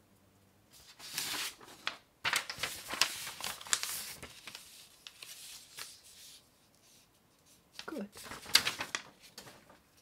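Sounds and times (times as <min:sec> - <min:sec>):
paper rustling: 0:00.7 - 0:10.0
paper crackles: 0:00.8 - 0:10.0.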